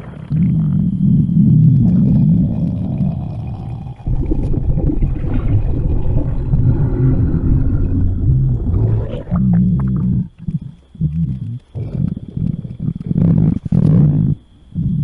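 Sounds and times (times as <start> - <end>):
stomach growling: 0.0 - 15.0.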